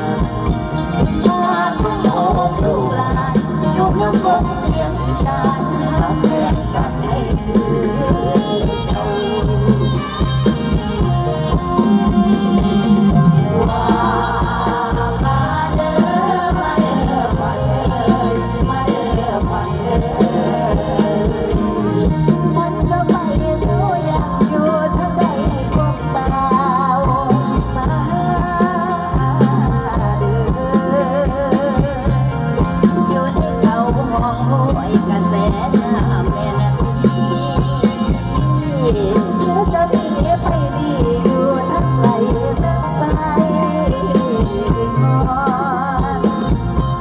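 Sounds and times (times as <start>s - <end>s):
amplified band with drum beat: 0.0s - 47.0s.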